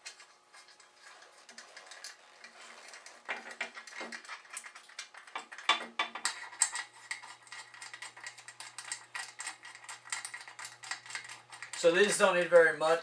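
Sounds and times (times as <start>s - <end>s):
small metal parts clicking and clinking: 0.0s - 12.8s.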